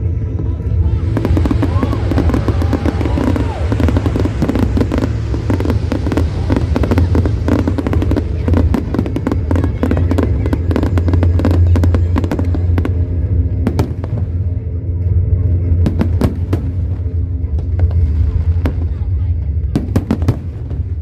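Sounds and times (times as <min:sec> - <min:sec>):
deep rumble: 0:00.0 - 0:21.0
fireworks crackling and banging: 0:00.0 - 0:21.0
music playing: 0:00.0 - 0:21.0.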